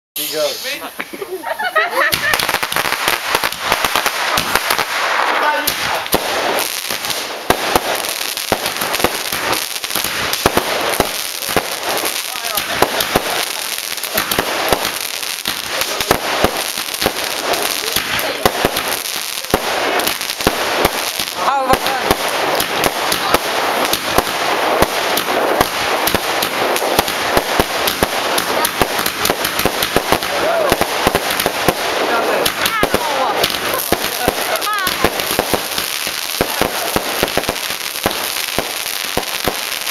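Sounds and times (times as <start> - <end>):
firework bangs and crackles: 0.2 - 39.9.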